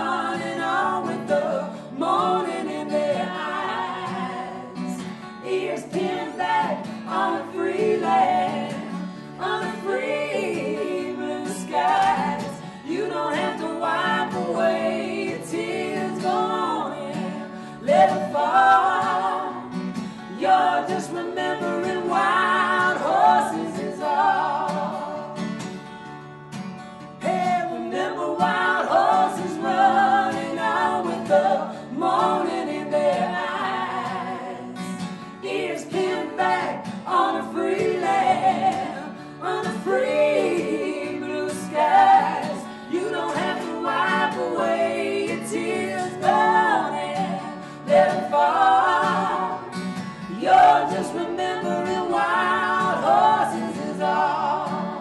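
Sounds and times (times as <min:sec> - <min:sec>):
people singing in harmony: 0:00.0 - 0:55.0
strummed acoustic guitar: 0:00.0 - 0:55.0.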